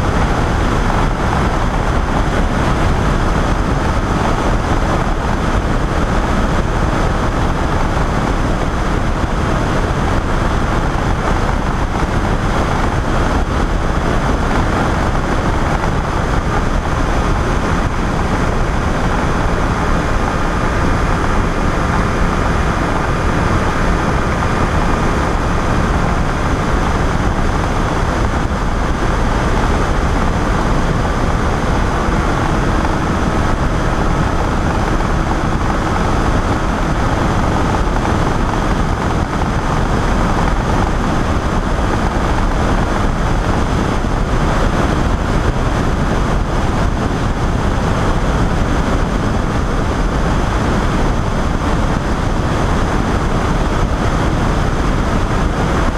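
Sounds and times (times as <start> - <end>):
engine and propeller droning: 0.0 - 55.9
wind rushing over microphone: 0.0 - 55.9.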